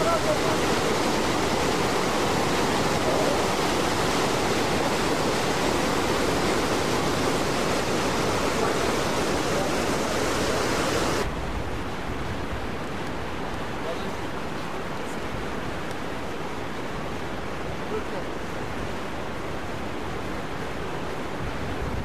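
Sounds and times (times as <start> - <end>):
large waterfall rushing: 0.0 - 22.0.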